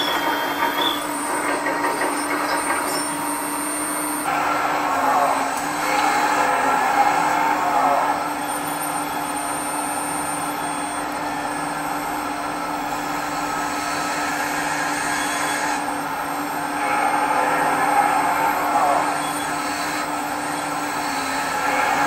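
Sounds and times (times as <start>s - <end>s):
hydraulic pump whining: 0.0s - 22.0s.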